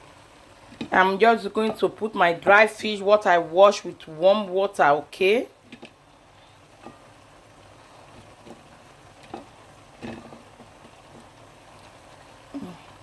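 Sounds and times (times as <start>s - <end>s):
sauce sizzling in a pot: 0.0s - 13.0s.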